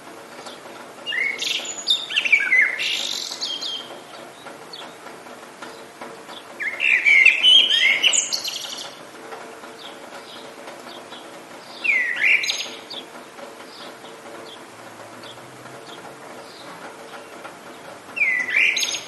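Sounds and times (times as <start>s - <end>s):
rain hiss: 0.0s - 19.0s
songbirds warbling: 0.3s - 9.1s, 9.7s - 19.0s.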